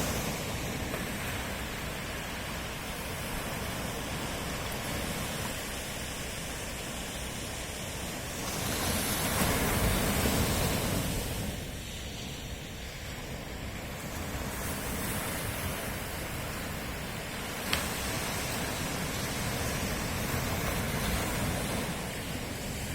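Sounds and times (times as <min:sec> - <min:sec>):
sea waves surf: 0:00.0 - 0:22.9.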